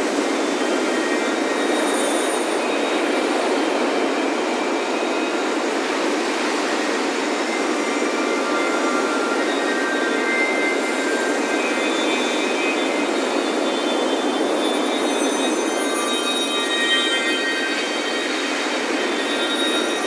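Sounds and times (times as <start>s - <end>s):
faint wind chime tones: 0.1s - 20.0s.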